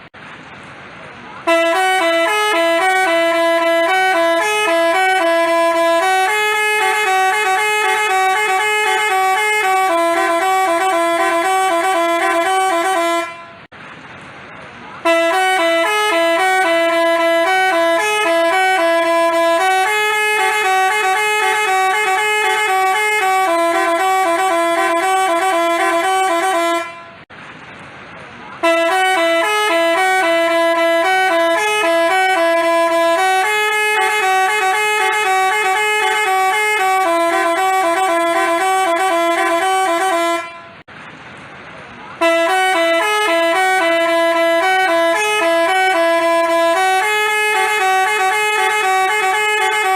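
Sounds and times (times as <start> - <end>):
musical bus horn tune: 1.4 - 13.7, 15.0 - 27.3, 28.6 - 40.9, 42.2 - 49.9.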